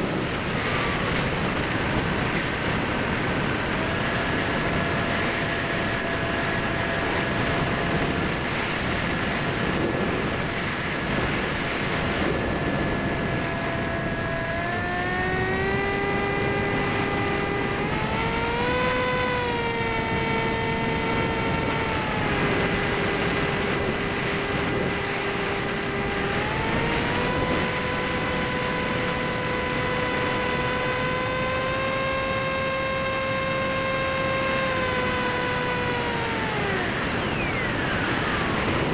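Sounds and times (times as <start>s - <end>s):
electric motor propeller whine: 0.0s - 38.9s
wind noise: 0.0s - 38.9s.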